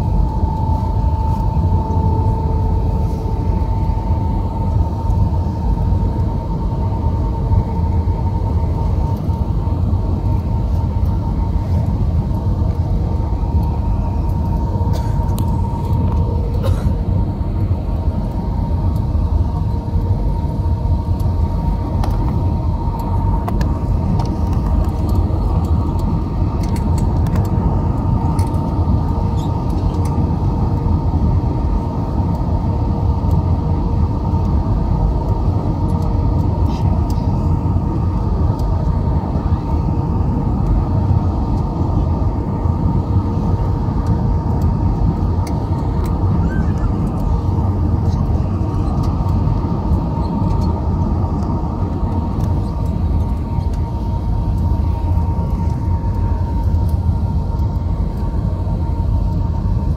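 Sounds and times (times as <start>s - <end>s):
airplane cabin engine rumble: 0.0s - 59.9s
faint high hum: 0.0s - 59.9s.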